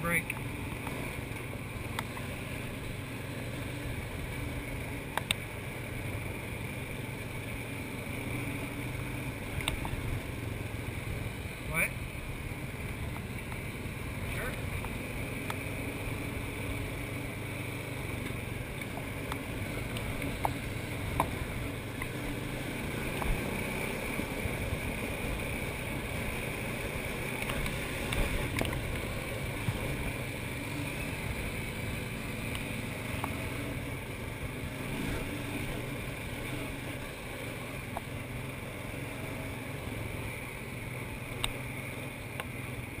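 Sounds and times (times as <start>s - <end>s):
atv engine running: 0.0s - 43.0s.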